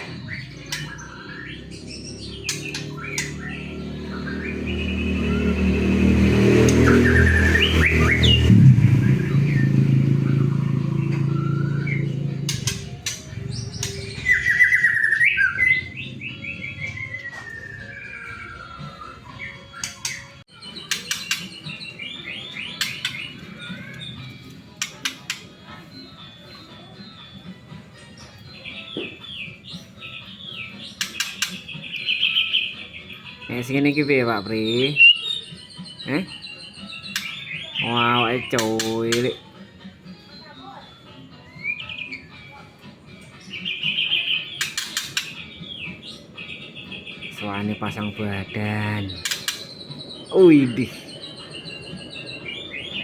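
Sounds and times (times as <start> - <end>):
bird singing: 0.0 - 53.0.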